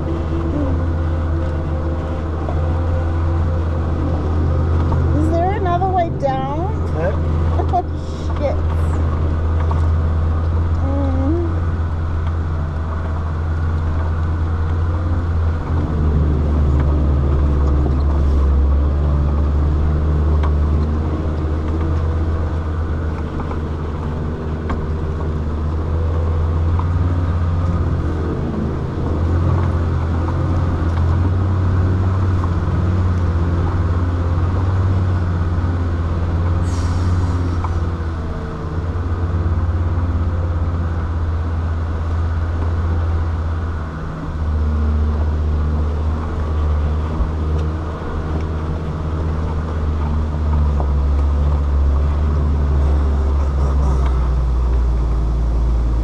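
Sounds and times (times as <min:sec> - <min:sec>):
engine droning under load: 0:00.0 - 0:56.0.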